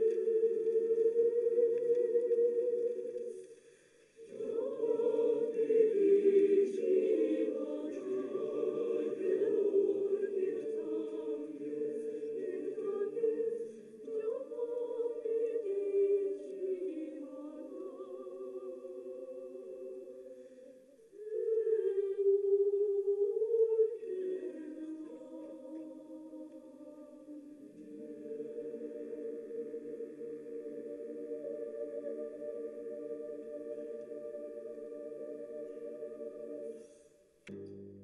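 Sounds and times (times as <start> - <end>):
choir singing sustained chords: 0.0 - 38.0.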